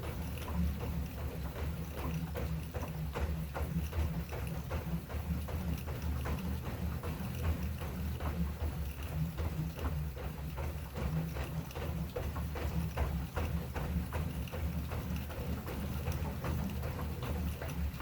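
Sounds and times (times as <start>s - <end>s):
treadmill slats knocking and creaking: 0.0s - 18.0s.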